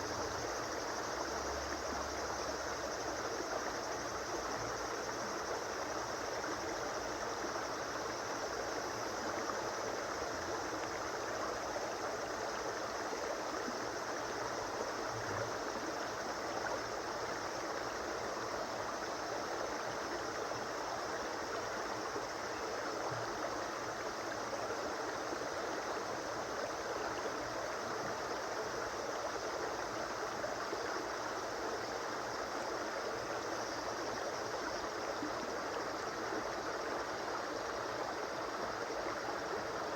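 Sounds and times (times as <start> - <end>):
stream flowing over rocks: 4.8 - 39.9.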